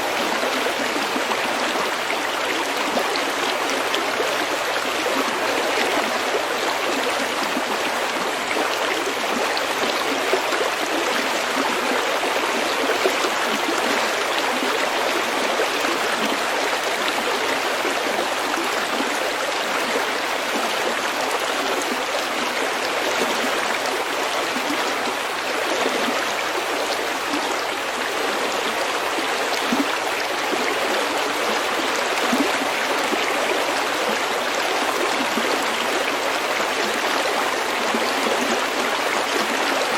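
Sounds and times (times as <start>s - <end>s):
stream flowing over pebbles: 0.0s - 39.9s.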